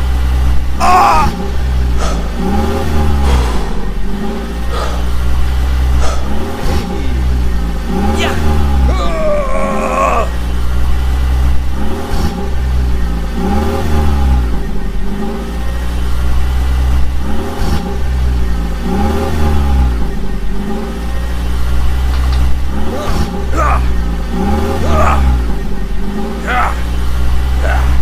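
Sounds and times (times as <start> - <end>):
cartoon vehicle engine revving: 0.0 - 28.0.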